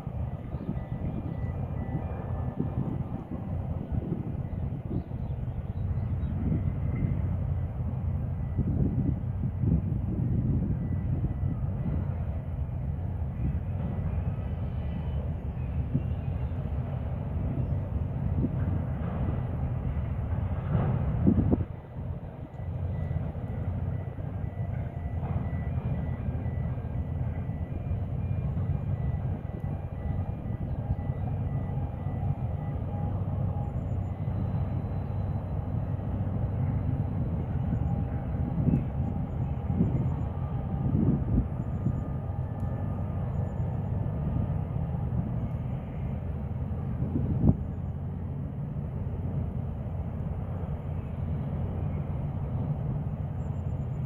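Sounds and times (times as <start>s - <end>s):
distant machinery rumble: 0.0s - 54.0s
wind buffeting microphone: 0.0s - 54.0s.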